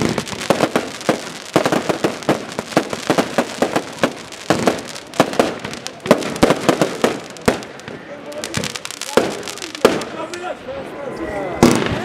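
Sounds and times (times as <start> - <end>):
fireworks popping and crackling: 0.0 - 10.6, 11.6 - 12.0
loud firework reports: 0.0 - 12.0.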